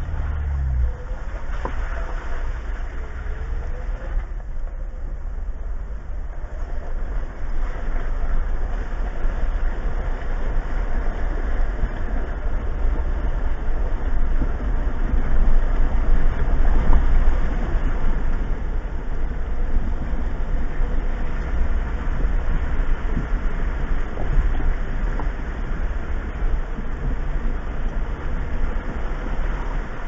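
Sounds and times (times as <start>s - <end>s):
engine and drivetrain drone: 0.0s - 30.0s.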